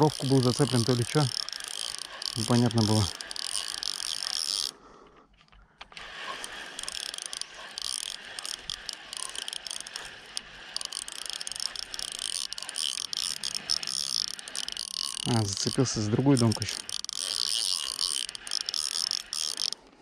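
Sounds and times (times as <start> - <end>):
fishing reel clicking: 0.0 - 20.0.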